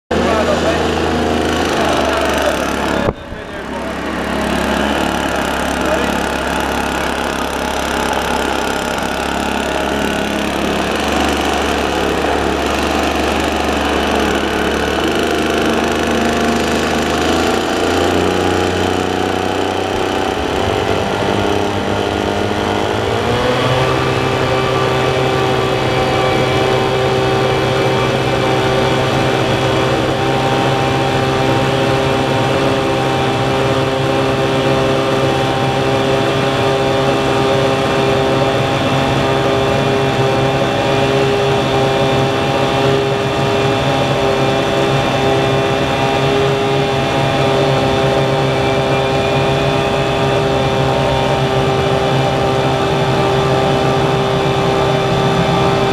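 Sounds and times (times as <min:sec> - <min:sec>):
leaf blower running: 0:00.0 - 0:55.9
turbine whine: 0:00.0 - 0:55.9.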